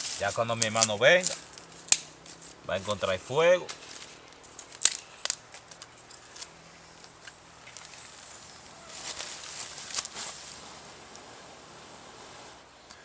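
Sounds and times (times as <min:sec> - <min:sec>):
campfire crackling: 0:00.0 - 0:13.0
soft hissing rush: 0:00.0 - 0:13.0.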